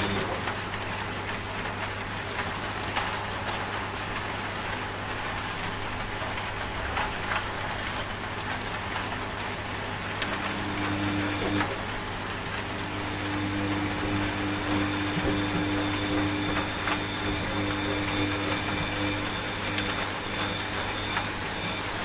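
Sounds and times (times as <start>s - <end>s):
steady rain: 0.0s - 22.0s
washing machine hum: 0.0s - 22.0s.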